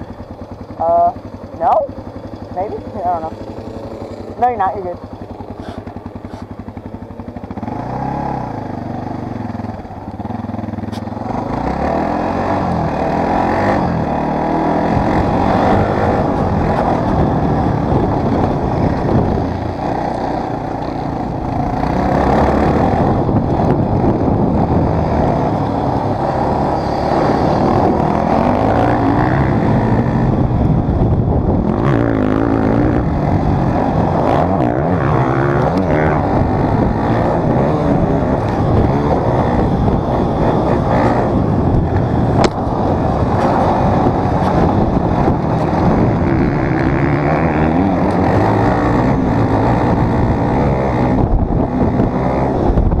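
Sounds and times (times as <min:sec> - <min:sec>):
dirt bike engine revving: 0:00.7 - 0:53.0.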